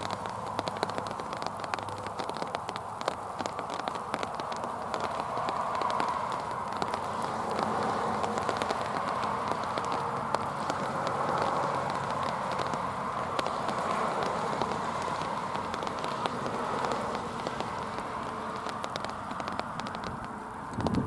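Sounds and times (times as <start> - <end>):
sharp clicks of wheels: 0.0 - 21.0
train wheels rolling on rails: 0.0 - 21.0.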